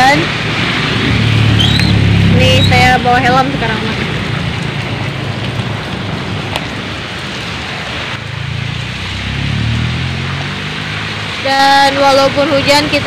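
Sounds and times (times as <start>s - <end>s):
heavy rain on road: 0.0s - 13.0s.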